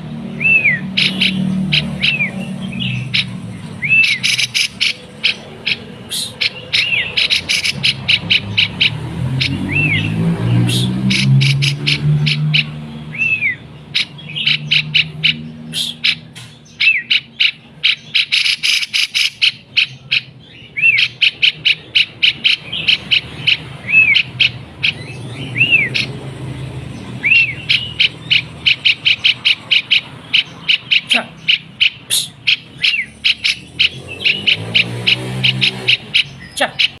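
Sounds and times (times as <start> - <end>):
bird chipping notes: 0.0 - 37.0.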